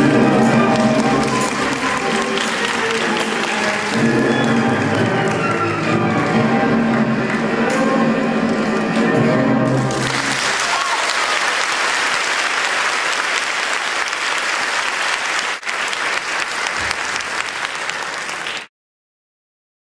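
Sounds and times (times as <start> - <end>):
audience applauding: 0.1 - 7.7, 8.4 - 18.7.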